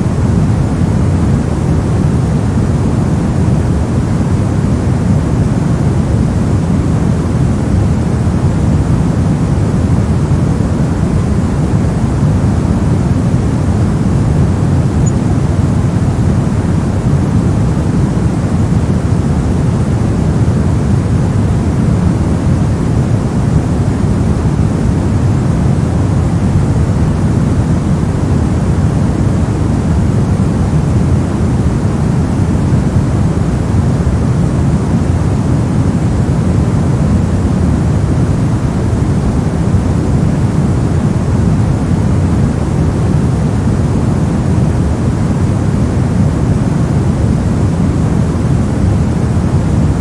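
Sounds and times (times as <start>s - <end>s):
deep synthetic white noise: 0.0s - 50.0s.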